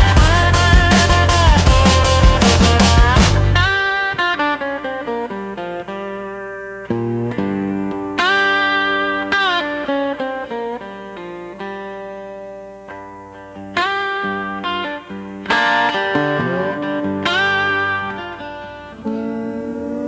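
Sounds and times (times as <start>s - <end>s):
slow country guitar solo: 0.0s - 20.0s.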